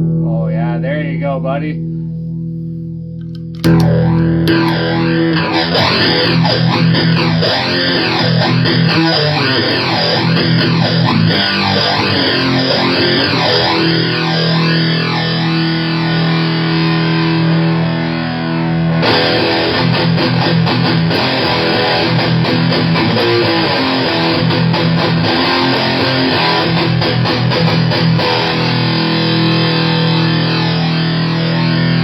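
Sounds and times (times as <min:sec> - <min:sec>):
distorted electric guitar: 0:00.0 - 0:32.0.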